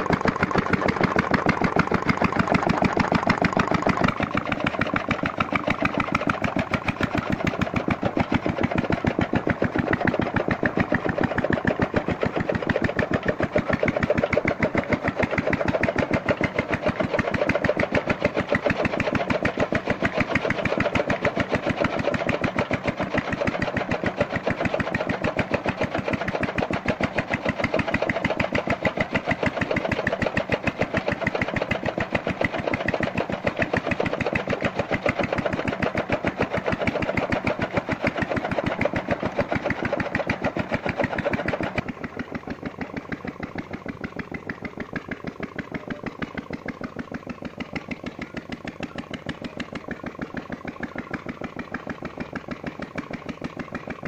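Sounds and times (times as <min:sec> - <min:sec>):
chaff cutter chopping fodder: 0:00.0 - 0:54.0.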